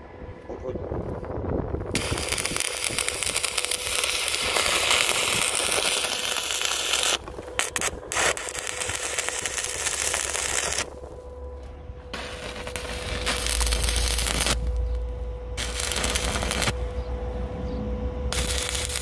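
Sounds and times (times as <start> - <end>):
arc welding: 1.8 - 17.0, 18.3 - 19.0.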